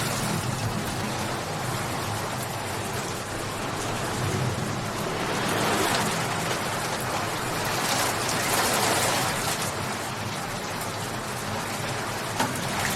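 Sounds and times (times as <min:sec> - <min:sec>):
dense rainfall hissing: 0:00.0 - 0:12.9.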